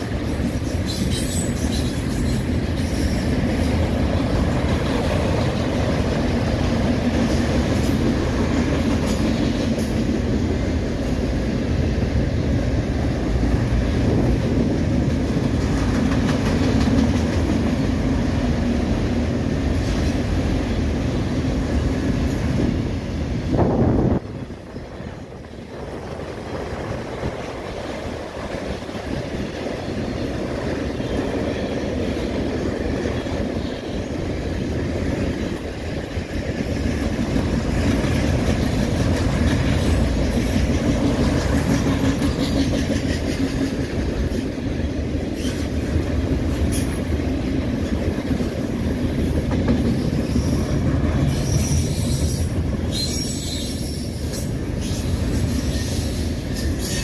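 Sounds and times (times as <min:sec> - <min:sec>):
train wheels running on rails: 0:00.0 - 0:57.0.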